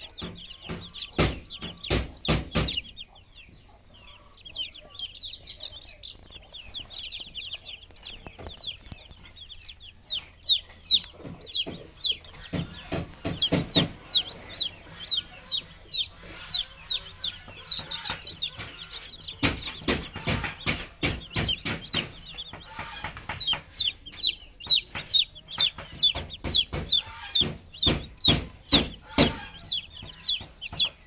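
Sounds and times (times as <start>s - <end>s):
loud sharp knocks: 0.0s - 3.1s, 7.9s - 31.0s
chicks peeping: 0.0s - 31.0s.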